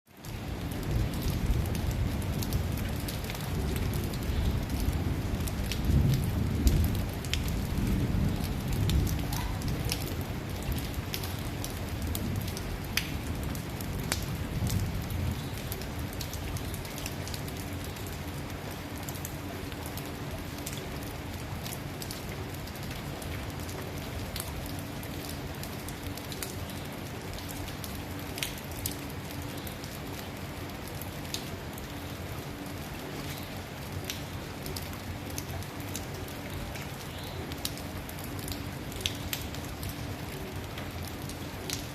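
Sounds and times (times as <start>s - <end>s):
rain falling on a road: 0.1s - 41.9s.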